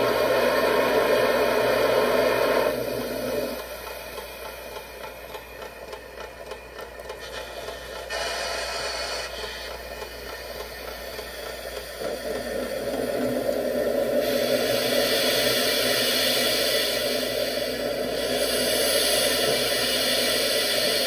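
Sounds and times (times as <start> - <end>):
steam locomotive model hissing: 0.0 - 21.0.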